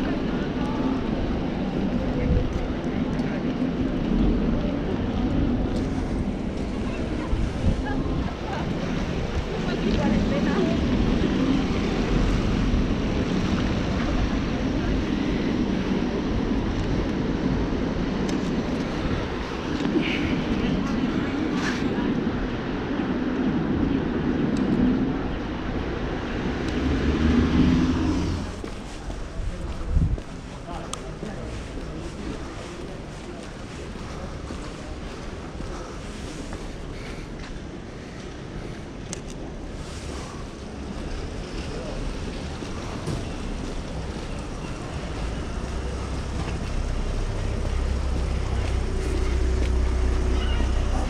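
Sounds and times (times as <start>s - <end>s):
traffic rumble on wet road: 0.0s - 51.0s.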